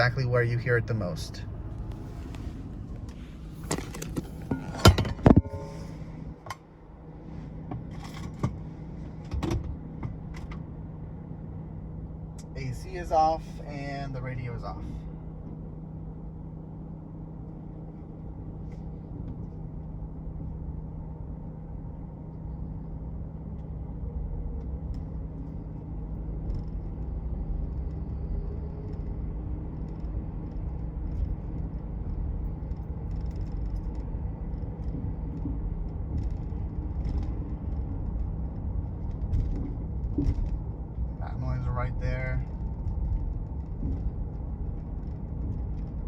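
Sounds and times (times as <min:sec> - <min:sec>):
road and drivetrain rumble: 0:00.0 - 0:46.0.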